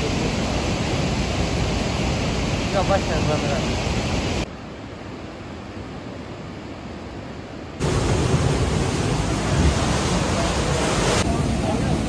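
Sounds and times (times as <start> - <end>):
flooded river rushing: 0.0 - 5.8, 6.7 - 12.0.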